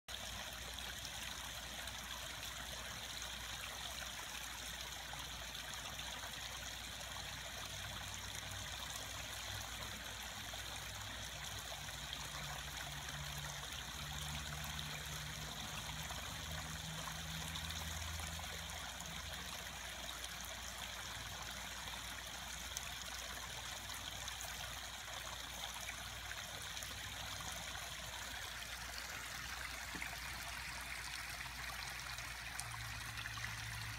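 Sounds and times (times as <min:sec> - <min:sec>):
running water trickling: 0:00.1 - 0:33.9.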